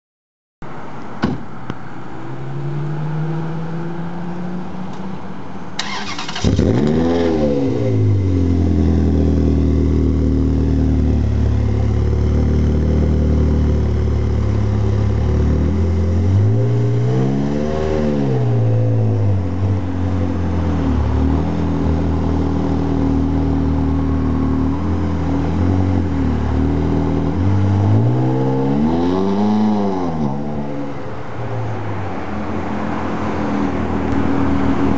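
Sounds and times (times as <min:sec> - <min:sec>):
car engine revving and idling: 0:01.8 - 0:34.9.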